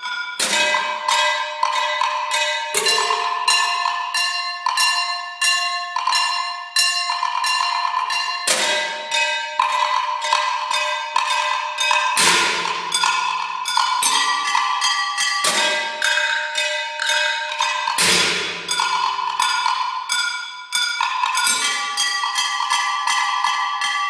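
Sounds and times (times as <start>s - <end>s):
bell-like metal strokes ringing: 0.0s - 24.0s.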